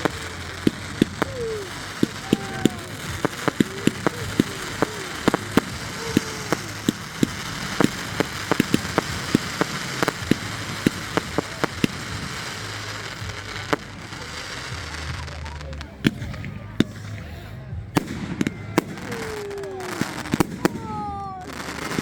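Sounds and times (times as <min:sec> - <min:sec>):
fireworks popping and crackling: 0:00.0 - 0:22.0
fireworks whistling: 0:00.0 - 0:22.0.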